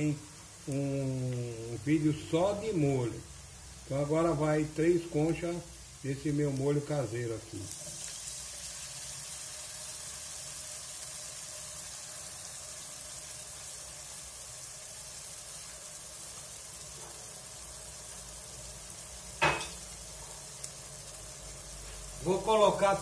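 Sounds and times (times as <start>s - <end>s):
sauce sizzling in a pan: 0.0s - 23.0s.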